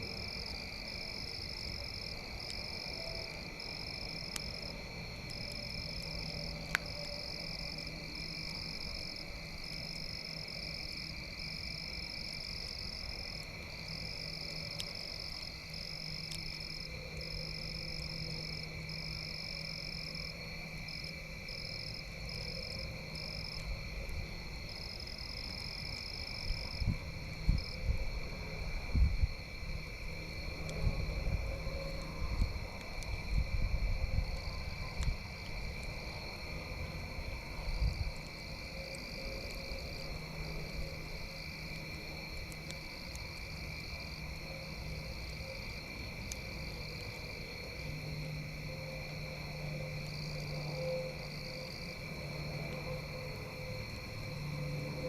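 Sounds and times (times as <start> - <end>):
frogs and insects trilling: 0.0 - 55.0.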